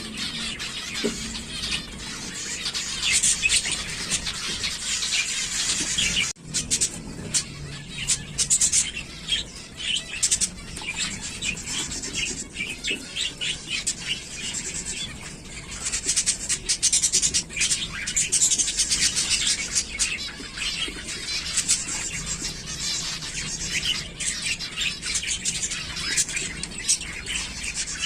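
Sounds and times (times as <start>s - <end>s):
finches chirping: 0.0s - 28.0s.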